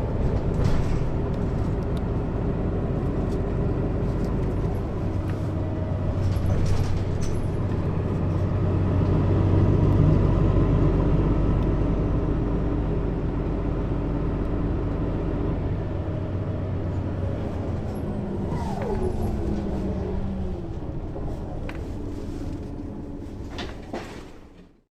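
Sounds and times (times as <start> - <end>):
bus engine running: 0.0 - 24.9.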